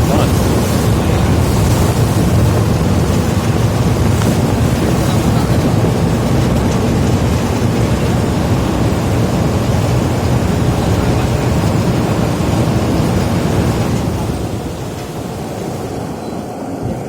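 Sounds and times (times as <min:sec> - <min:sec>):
ferry engine rumble: 0:00.0 - 0:17.0
water rushing: 0:00.0 - 0:17.0
wind on microphone: 0:00.0 - 0:17.0.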